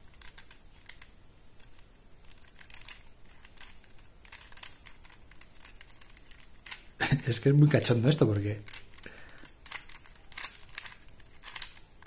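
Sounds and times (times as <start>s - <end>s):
plastic puzzle clicking: 0.1s - 6.9s, 8.0s - 11.9s.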